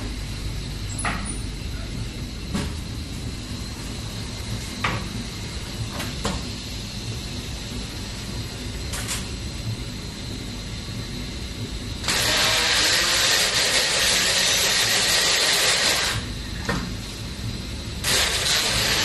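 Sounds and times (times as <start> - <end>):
machine humming and whining: 0.0 - 19.0.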